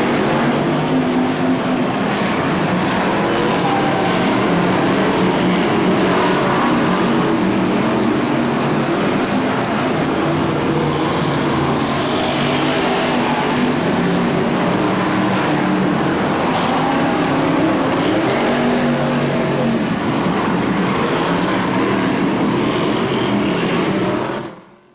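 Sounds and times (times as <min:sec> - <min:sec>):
stock car engines running: 0:00.0 - 0:24.9.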